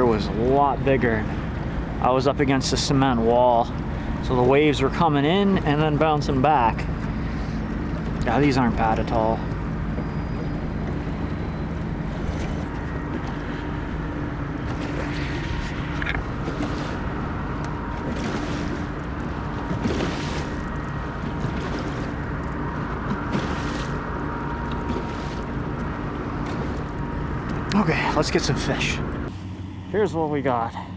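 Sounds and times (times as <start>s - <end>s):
boat engine: 0.0s - 30.9s
hull splashing on waves: 0.0s - 30.9s
water rushing: 0.0s - 30.9s.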